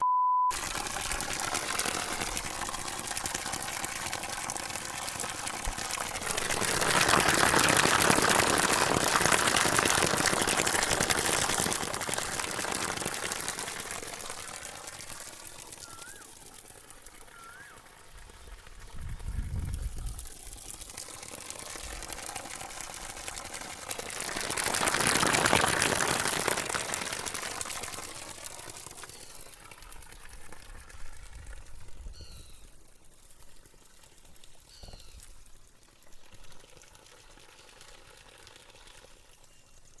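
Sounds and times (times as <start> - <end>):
water running and splashing: 0.5 - 40.0.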